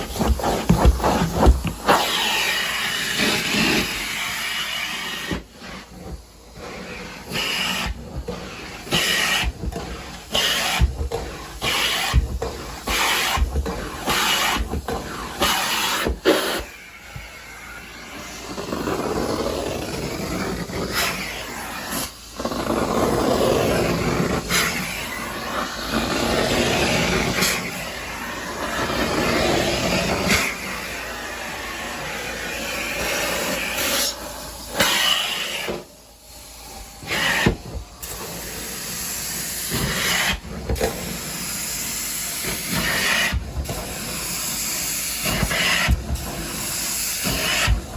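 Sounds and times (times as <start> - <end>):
carpet cleaning wand hissing: 0.0 - 47.9.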